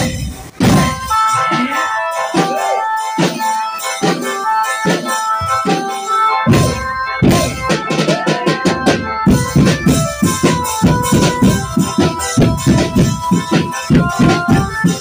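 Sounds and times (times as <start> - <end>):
drum band playing dance music: 0.0 - 15.0
heavy drums fast beat: 0.0 - 15.0.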